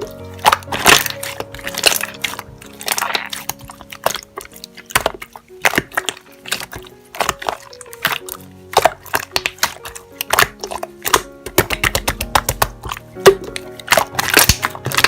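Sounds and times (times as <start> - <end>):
slime crackling and squishing: 0.0 - 15.0
soft piano music: 0.0 - 15.0.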